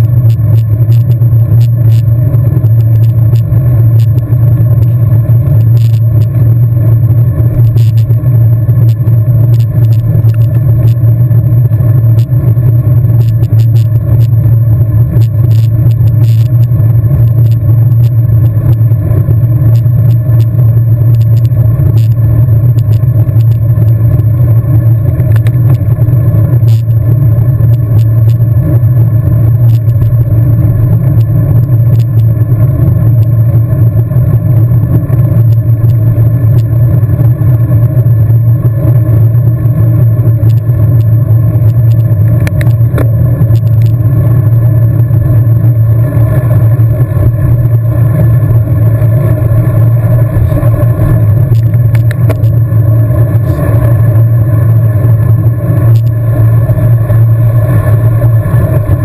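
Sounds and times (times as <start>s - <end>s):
bicycle ticks and rattles: 0.0s - 59.0s
road rumble: 0.0s - 59.0s.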